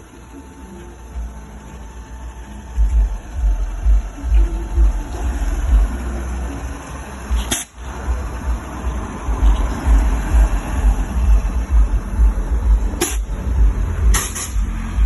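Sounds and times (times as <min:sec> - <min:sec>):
heavy pulsing bass music: 0:00.0 - 0:15.0.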